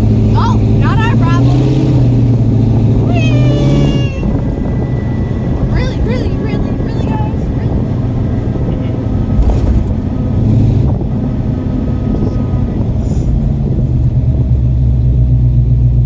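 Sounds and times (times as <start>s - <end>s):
truck engine rumble from cab: 0.0s - 16.0s.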